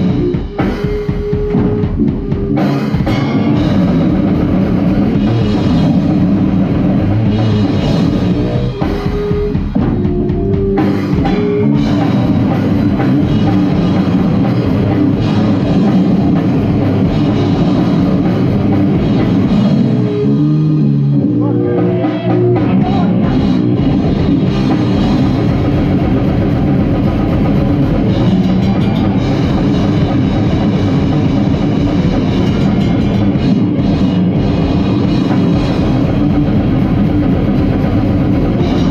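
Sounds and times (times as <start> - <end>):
band playing live: 0.0 - 38.9
distorted guitar: 0.0 - 38.9
drum kit: 0.0 - 38.9.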